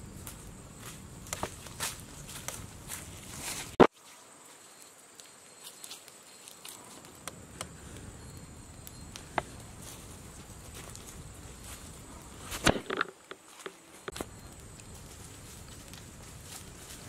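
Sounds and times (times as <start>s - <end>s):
outdoor ambience: 0.0s - 17.0s
wood fire crackling: 0.0s - 17.0s
footstep crunch on dry leaves: 0.1s - 7.2s, 9.2s - 17.0s.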